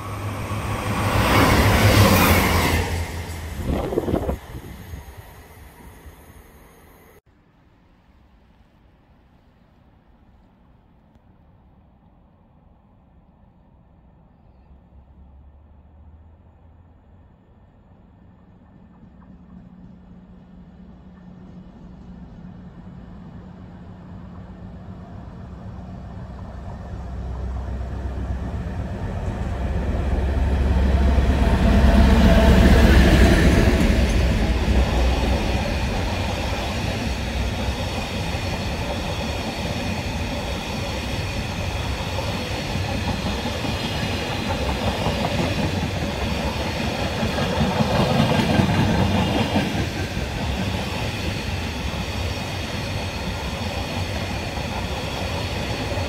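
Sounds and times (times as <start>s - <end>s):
diesel locomotive engine drone: 0.0s - 7.3s, 11.2s - 56.0s.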